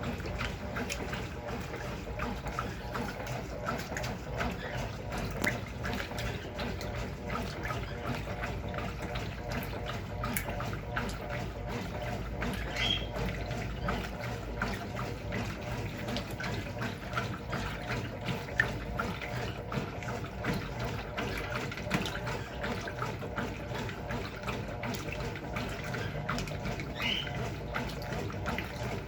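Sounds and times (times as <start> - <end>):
water splashing in washing machine: 0.0 - 29.0.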